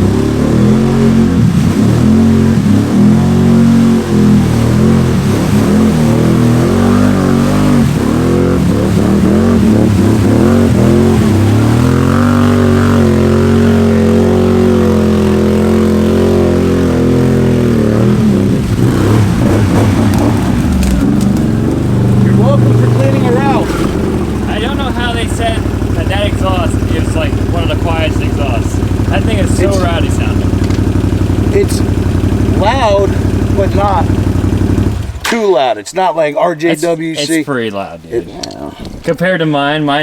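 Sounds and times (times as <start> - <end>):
atv engine revving: 0.0 - 37.4.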